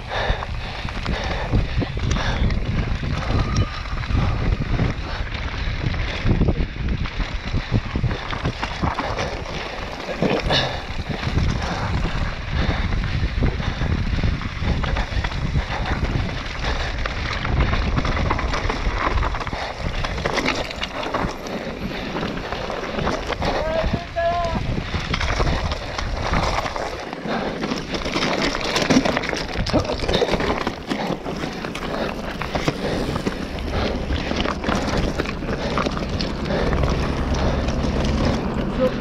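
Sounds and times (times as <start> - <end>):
wind buffeting microphone: 0.0 - 39.0
mountain bike clattering over rock: 0.2 - 39.0.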